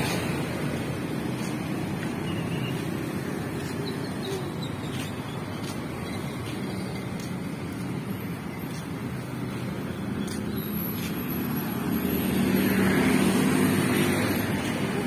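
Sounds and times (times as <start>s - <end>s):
cars and motorbikes passing: 0.0s - 15.0s.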